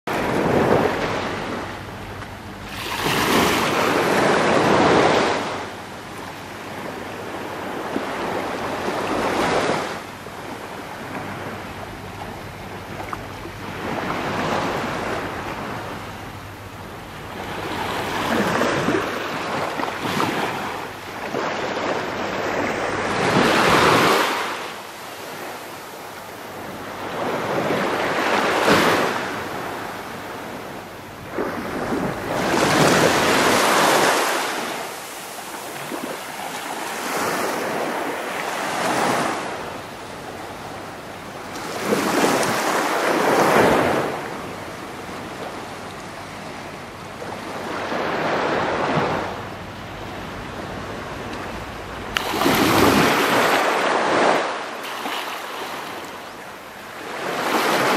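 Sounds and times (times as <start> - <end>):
waves breaking on shore: 0.1 - 57.9.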